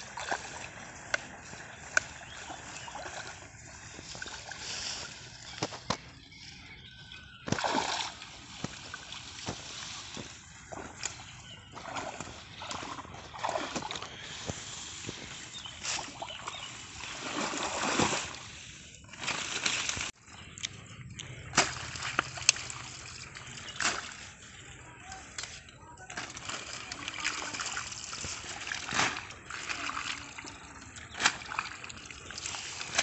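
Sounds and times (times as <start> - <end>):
shallow water sloshing and splashing: 0.0 - 5.8, 7.5 - 20.2, 21.3 - 33.0.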